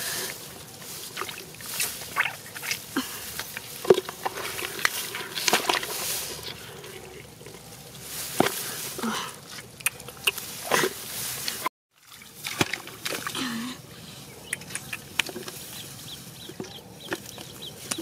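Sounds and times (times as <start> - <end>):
muddy water splashing: 0.0 - 7.6, 9.4 - 18.0.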